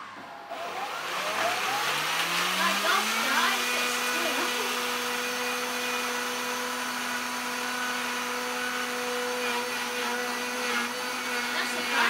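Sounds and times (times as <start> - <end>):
blender motor grinding: 0.0 - 12.0.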